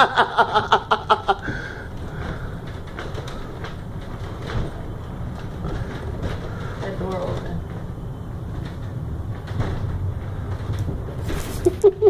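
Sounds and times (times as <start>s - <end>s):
funicular car rumbling on rails: 0.0s - 12.0s.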